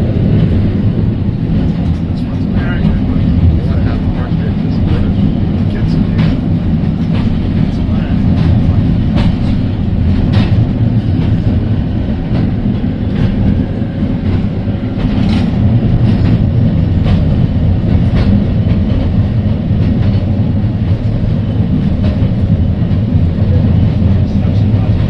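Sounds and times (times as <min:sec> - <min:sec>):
tram rumbling: 0:00.0 - 0:25.0.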